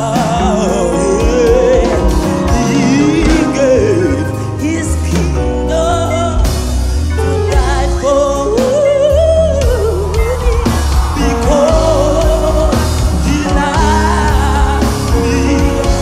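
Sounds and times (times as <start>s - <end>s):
gospel singer with vibrato: 0.0s - 16.0s
steady bass line: 0.0s - 16.0s.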